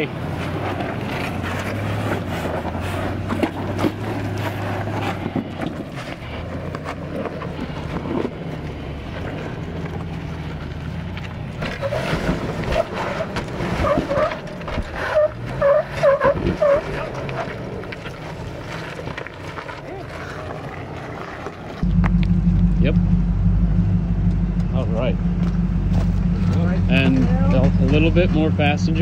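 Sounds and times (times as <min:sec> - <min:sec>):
truck engine running low speed: 0:00.0 - 0:29.0.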